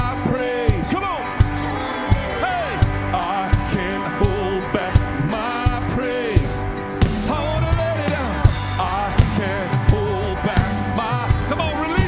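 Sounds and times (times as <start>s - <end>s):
band playing pop-rock song: 0.0s - 12.0s
steady drum beat: 0.0s - 12.0s
voices singing: 0.0s - 12.0s.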